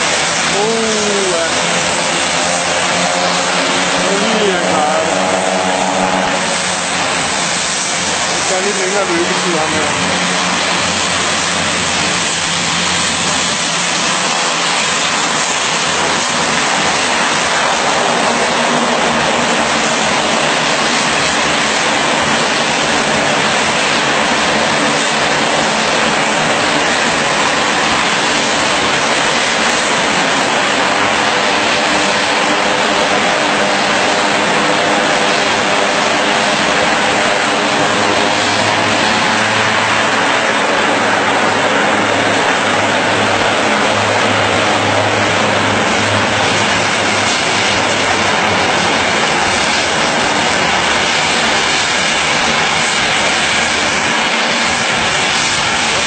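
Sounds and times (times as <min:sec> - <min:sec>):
turboprop plane engines droning: 0:00.0 - 0:56.0.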